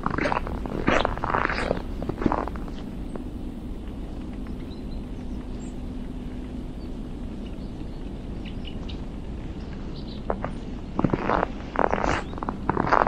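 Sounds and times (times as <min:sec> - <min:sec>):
faint steady hum: 0:00.0 - 0:13.0
low outdoor rumble: 0:00.0 - 0:13.0
small birds chirping: 0:00.0 - 0:13.0.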